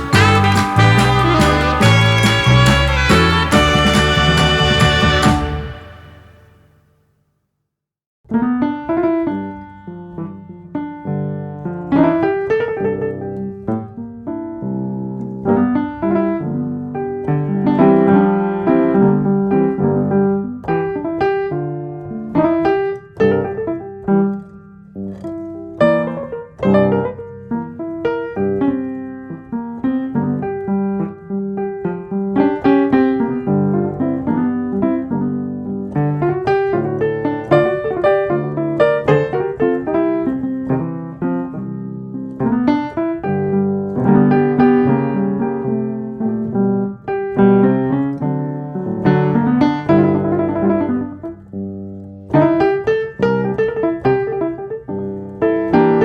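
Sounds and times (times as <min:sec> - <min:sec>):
solo piano music: 0:00.0 - 0:06.6, 0:08.4 - 0:56.0.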